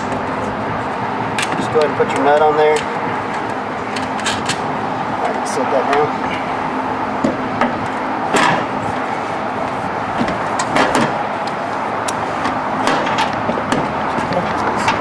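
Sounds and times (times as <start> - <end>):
steady background rumble: 0.0 - 15.0.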